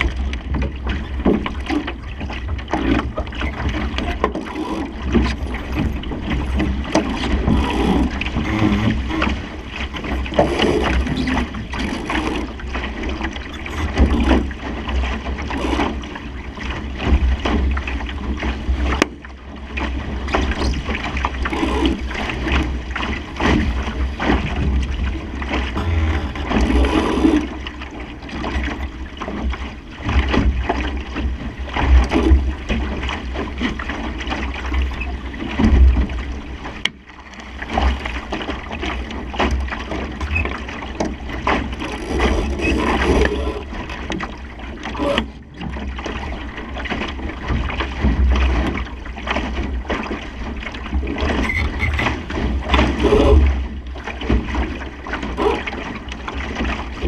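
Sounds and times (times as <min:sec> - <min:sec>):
water rushing along a hull: 0:00.0 - 0:57.0.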